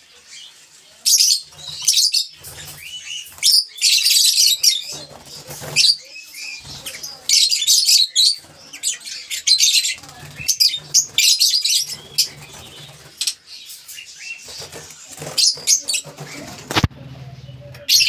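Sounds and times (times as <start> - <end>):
lovebirds chirping: 0.0 - 18.0.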